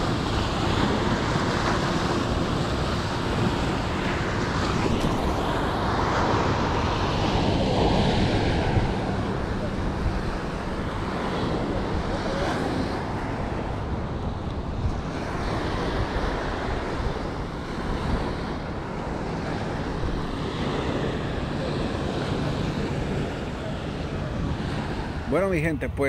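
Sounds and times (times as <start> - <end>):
small waves washing on sand: 0.0 - 25.6
wind blowing over microphone: 0.0 - 26.0.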